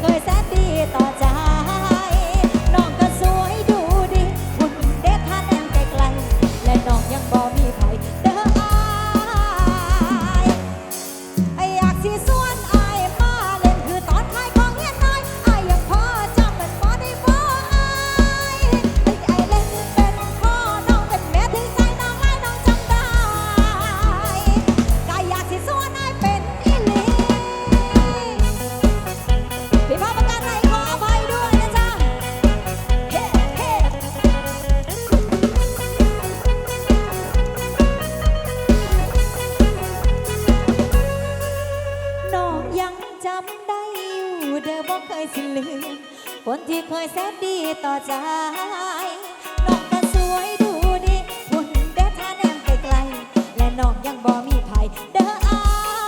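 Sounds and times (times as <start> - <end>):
drum kit fast beat: 0.0 - 42.4, 49.4 - 56.0.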